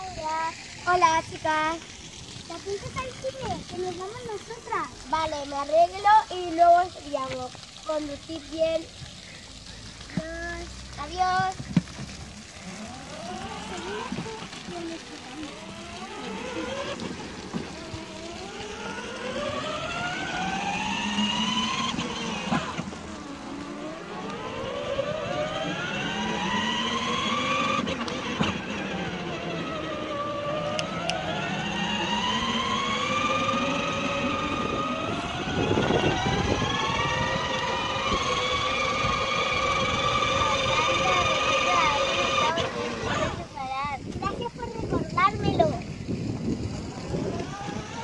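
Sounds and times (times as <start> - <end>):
toy car motor whining: 0.0 - 43.7, 44.3 - 48.0.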